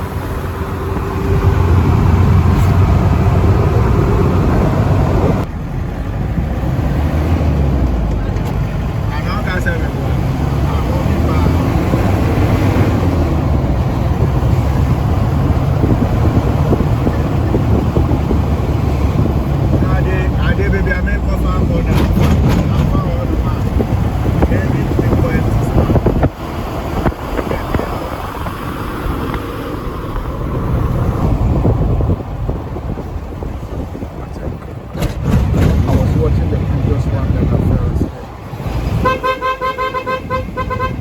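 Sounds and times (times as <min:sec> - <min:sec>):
engine and road rumble: 0:00.0 - 0:41.0
wind buffeting microphone: 0:00.0 - 0:41.0.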